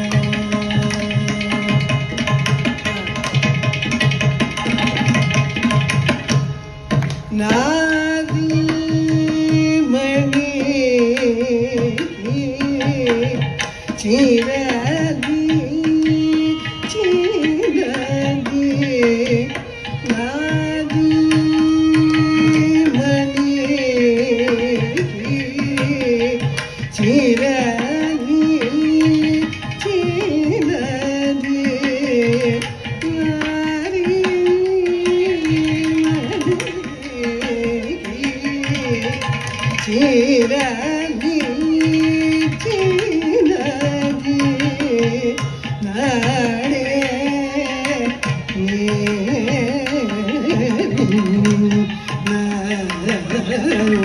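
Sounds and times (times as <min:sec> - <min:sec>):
hand drums playing: 0:00.0 - 0:54.0.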